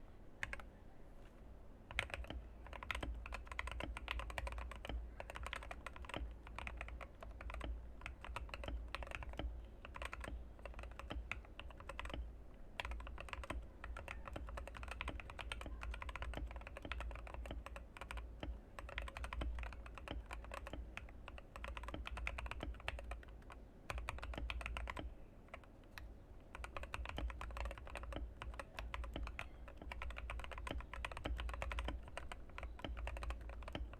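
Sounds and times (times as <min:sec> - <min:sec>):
mechanical keyboard typing: 0:00.4 - 0:00.7, 0:01.9 - 0:33.9.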